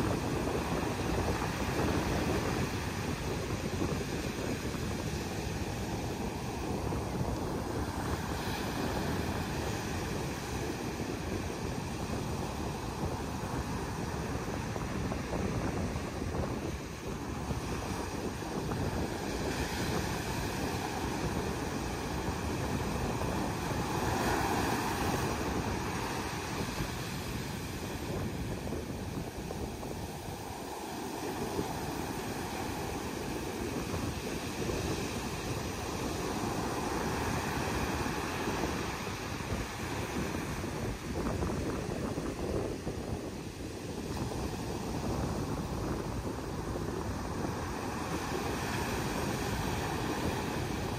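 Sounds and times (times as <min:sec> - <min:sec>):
surf breaking on beach: 0:00.0 - 0:50.9
wind buffeting microphone: 0:00.0 - 0:50.9.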